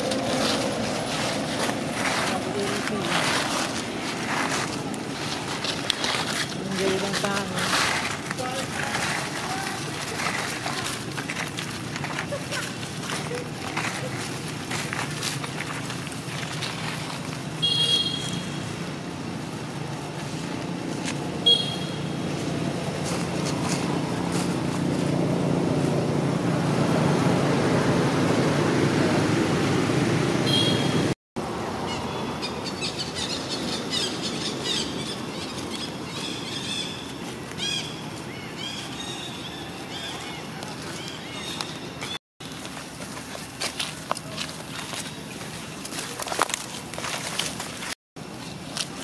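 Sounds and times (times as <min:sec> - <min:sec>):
vehicle engine rumble: 0:00.0 - 0:49.0.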